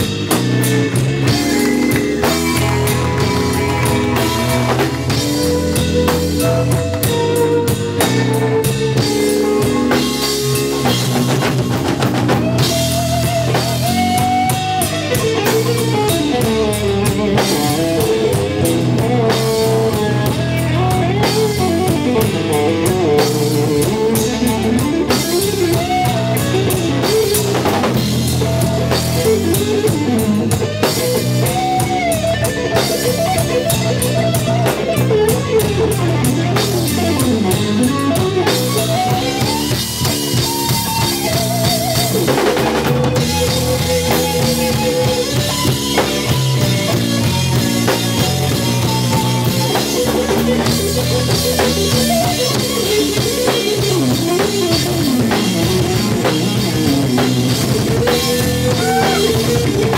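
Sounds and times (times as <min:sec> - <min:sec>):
drum kit: 0:00.0 - 0:59.9
electric guitar lead lines: 0:00.0 - 0:59.9
jazz-rock band playing: 0:00.0 - 0:59.9.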